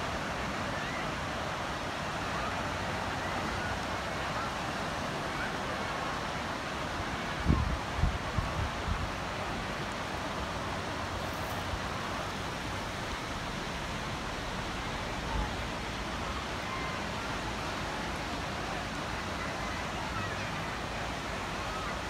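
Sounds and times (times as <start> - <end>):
faint murmur of beach crowd: 0.0 - 22.0
surf washing: 0.0 - 22.0.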